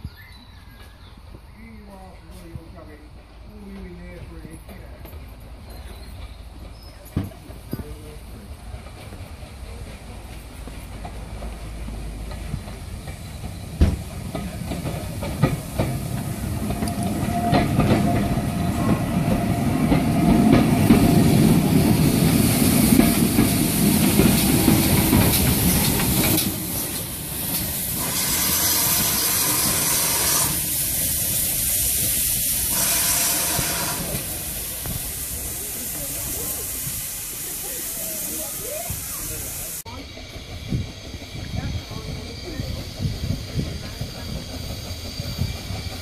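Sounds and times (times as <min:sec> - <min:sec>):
train wheels clicking over rail joints: 0:02.3 - 0:46.0
steam hiss: 0:06.8 - 0:46.0.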